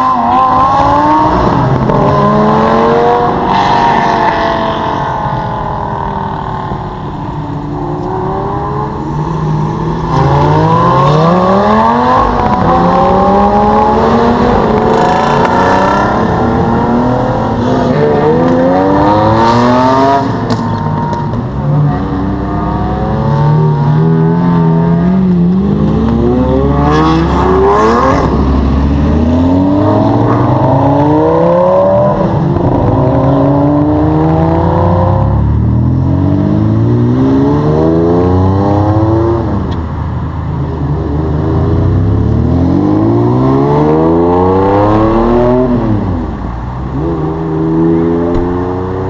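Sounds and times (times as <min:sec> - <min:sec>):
sports cars accelerating hard: 0:00.0 - 0:49.0.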